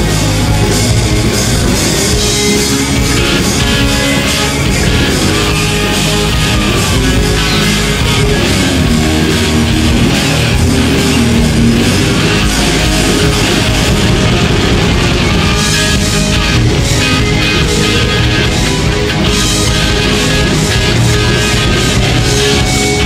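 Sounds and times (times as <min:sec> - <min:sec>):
rock band playing live: 0:00.0 - 0:23.0.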